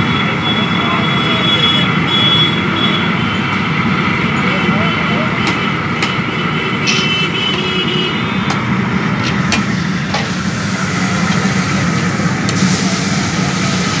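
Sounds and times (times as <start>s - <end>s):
gas burner roaring: 0.0s - 14.0s.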